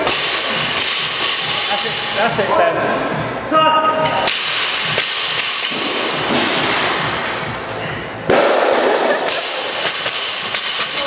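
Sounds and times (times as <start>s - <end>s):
voices in a gym: 0.0s - 11.0s.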